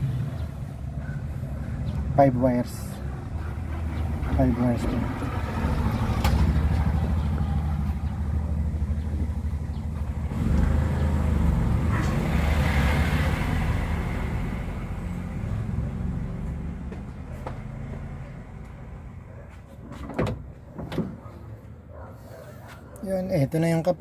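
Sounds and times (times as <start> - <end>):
vehicle engine rumbling: 0.0 - 22.1.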